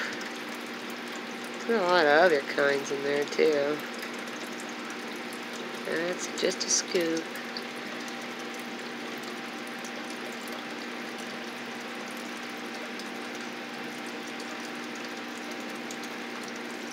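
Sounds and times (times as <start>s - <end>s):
aquarium pump humming: 0.0s - 16.9s.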